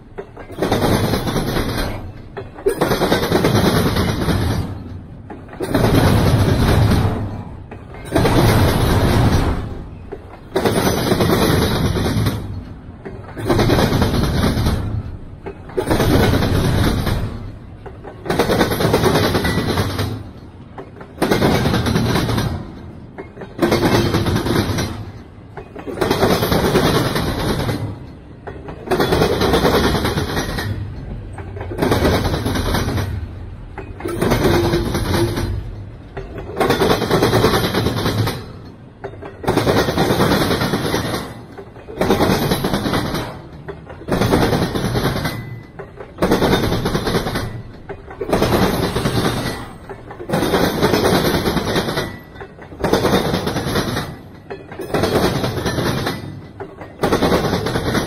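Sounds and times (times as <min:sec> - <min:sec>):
freight cars rolling on rails: 0:00.0 - 0:58.0.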